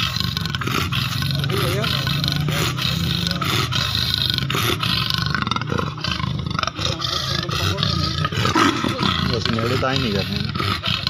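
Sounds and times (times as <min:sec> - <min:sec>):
leopard snarling and growling: 0:00.0 - 0:11.0.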